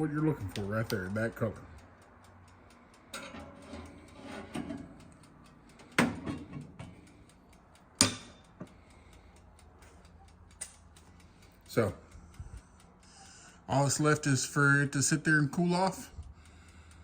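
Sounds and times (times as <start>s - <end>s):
mechanical timer ticking: 0.0s - 17.0s.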